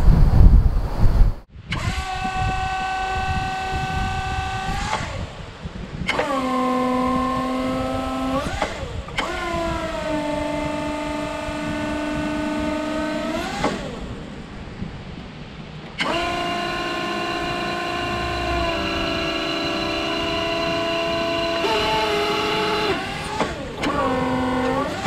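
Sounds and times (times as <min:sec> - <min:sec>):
hydraulic pump motor whining: 0:01.7 - 0:05.2, 0:06.0 - 0:14.8, 0:15.8 - 0:25.0.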